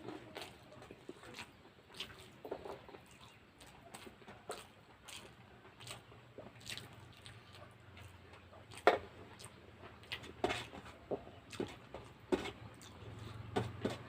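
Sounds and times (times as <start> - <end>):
person chewing wetly: 0.0 - 14.0.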